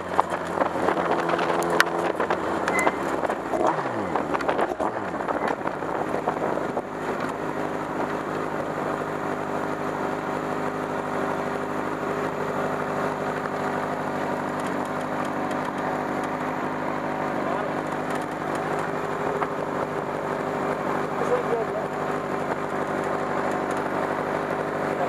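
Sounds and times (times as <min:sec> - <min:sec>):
kart engine idling: 0:00.0 - 0:25.0.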